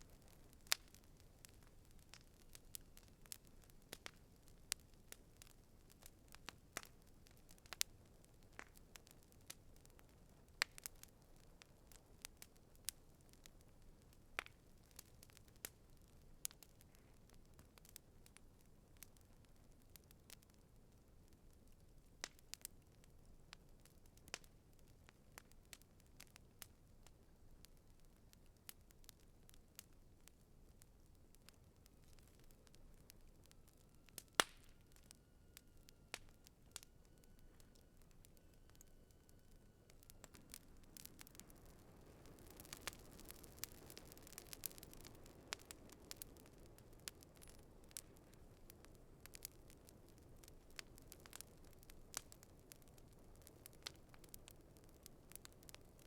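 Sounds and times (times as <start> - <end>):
campfire wood crackling: 0.0 - 56.0
faint low hiss: 0.0 - 56.0
low rumble of burning fire: 0.0 - 56.0.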